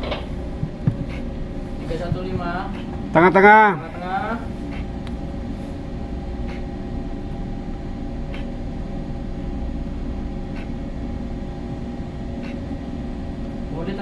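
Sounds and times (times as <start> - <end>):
ship machinery hum: 0.0 - 14.0.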